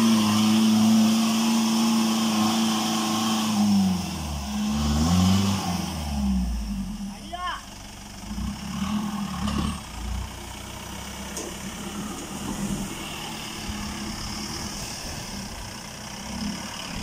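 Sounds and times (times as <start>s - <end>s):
pickup engine running under load: 0.0s - 17.0s.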